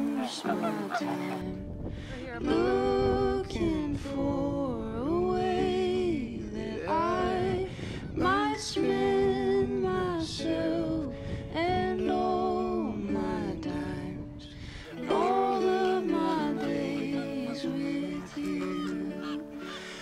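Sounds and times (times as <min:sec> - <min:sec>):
song with sung vocals: 0:00.0 - 0:20.0.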